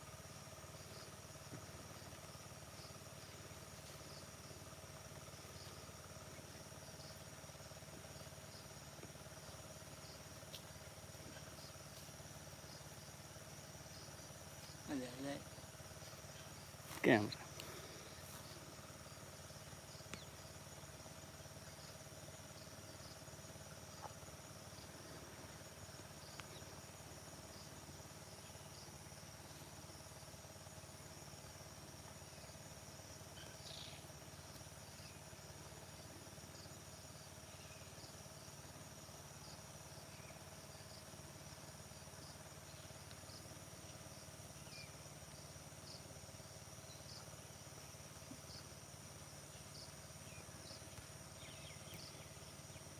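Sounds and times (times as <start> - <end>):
insects trilling: 0.0 - 52.9
low steady hum: 0.0 - 52.9.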